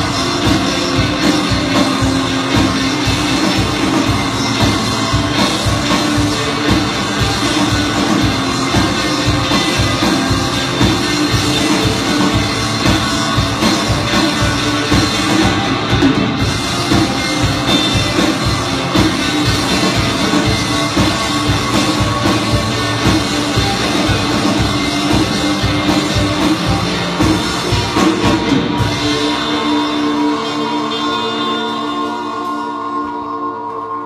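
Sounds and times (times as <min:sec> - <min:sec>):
drum kit beat: 0:00.0 - 0:31.5
electric guitars: 0:00.0 - 0:34.0.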